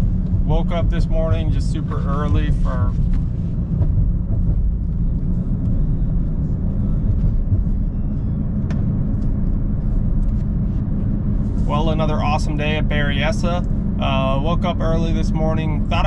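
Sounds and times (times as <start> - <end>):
car rumbling from inside: 0.0 - 16.0.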